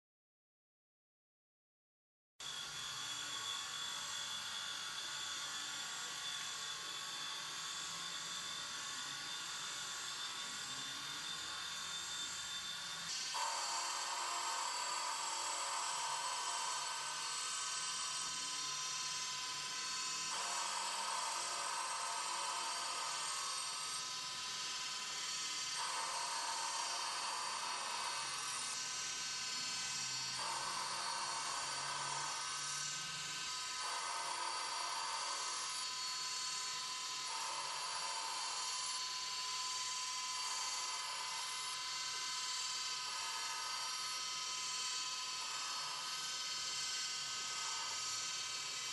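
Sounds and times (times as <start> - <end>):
cutting tool hiss: 2.4 - 48.9
lathe spindle whine: 2.4 - 48.9.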